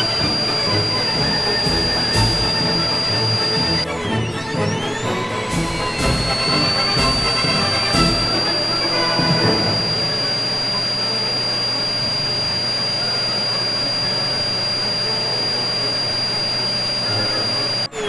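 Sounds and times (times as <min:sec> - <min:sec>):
vacuum cleaner motor running: 0:00.0 - 0:18.0.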